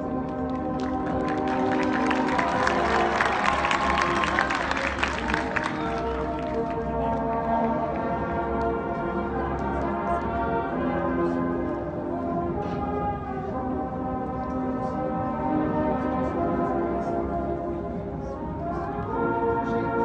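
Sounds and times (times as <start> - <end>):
marching band playing chords: 0.0 - 17.6.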